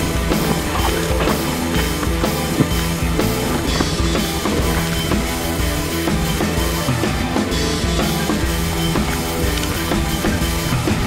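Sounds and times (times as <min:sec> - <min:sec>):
drum kit beat: 0:00.0 - 0:11.0
rock music: 0:00.0 - 0:11.0.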